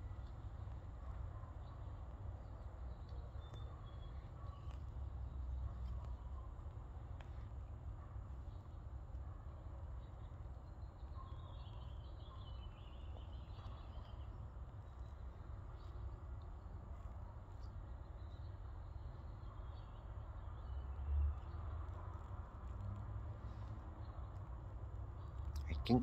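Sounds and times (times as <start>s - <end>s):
faint birds chirping: 0.0s - 26.0s.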